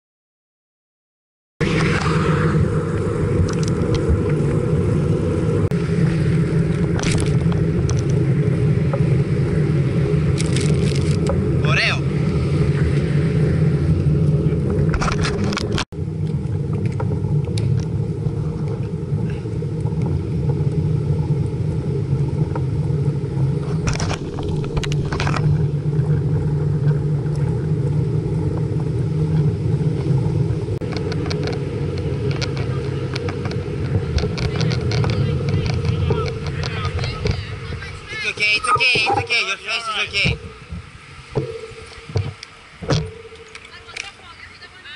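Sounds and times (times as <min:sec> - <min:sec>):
bicycle road noise rumble: 0:01.6 - 0:44.9
wind buffeting microphone: 0:01.6 - 0:44.9.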